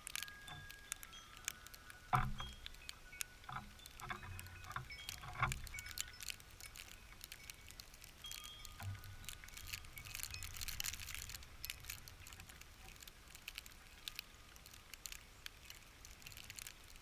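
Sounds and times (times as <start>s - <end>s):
birds pecking at feeder: 0.0s - 17.0s.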